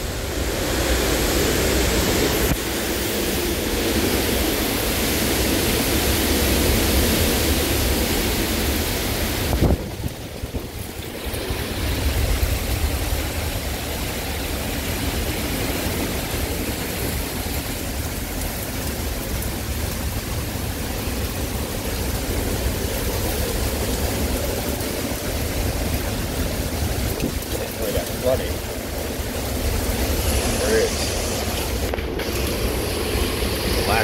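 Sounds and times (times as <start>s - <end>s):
driving rain: 0.0s - 34.0s
wind buffeting microphone: 0.1s - 33.9s.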